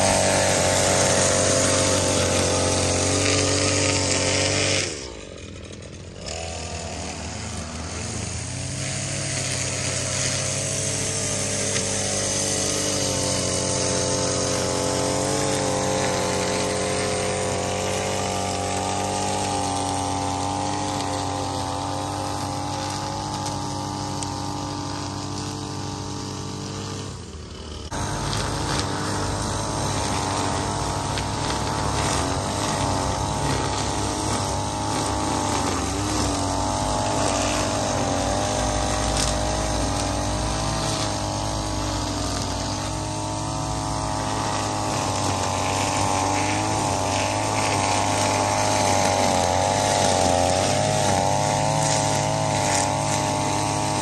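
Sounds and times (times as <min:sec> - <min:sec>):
small gasoline engine running: 0:00.0 - 0:54.0.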